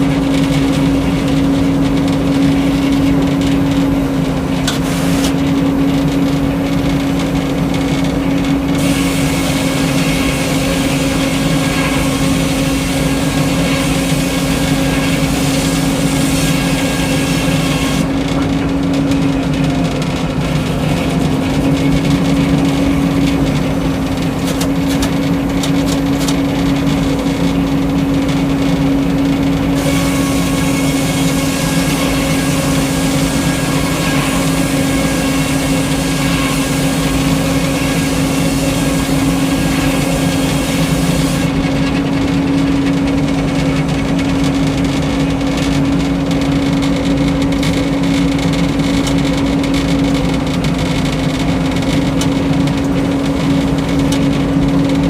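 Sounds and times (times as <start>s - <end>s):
sawmill running: 0.0s - 55.0s.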